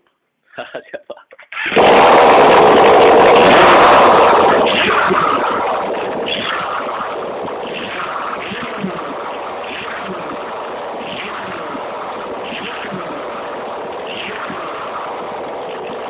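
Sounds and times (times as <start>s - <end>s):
motorcycle engine running: 1.7s - 16.0s.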